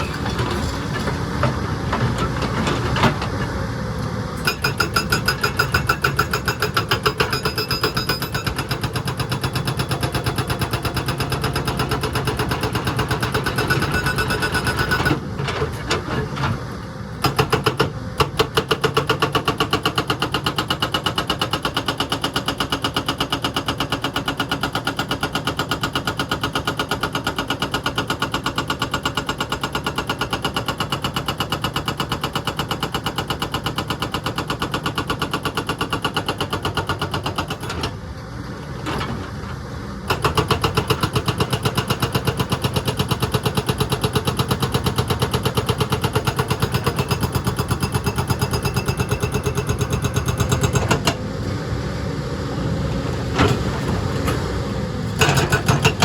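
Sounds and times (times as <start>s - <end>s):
excavator diesel engine running: 0.0s - 28.2s, 31.8s - 56.0s.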